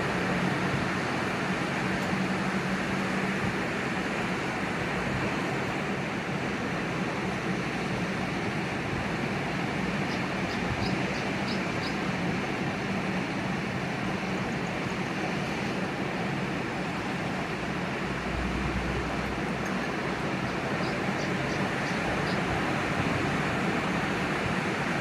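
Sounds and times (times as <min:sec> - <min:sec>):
sea surf roaring: 0:00.0 - 0:25.0.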